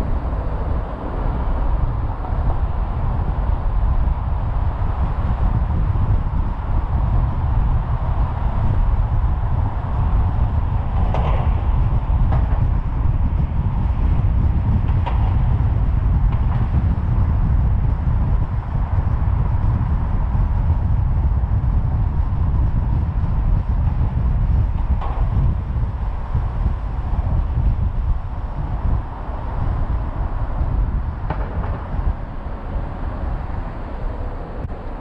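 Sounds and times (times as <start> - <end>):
car driving rumble: 0.0 - 35.0.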